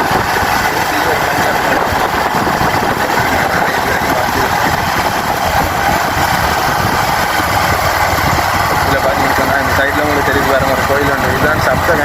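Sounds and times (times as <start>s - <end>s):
motorcycle engine running: 0.0s - 12.0s
wind noise rushing: 0.0s - 12.0s.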